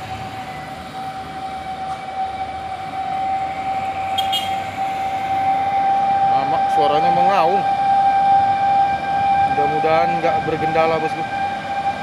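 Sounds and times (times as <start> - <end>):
drivetrain howl: 0.0 - 12.0.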